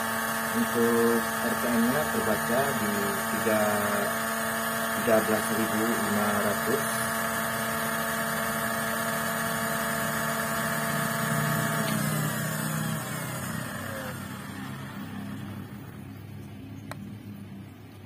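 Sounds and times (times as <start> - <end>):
grass trimmer motor whine: 0.0 - 16.2.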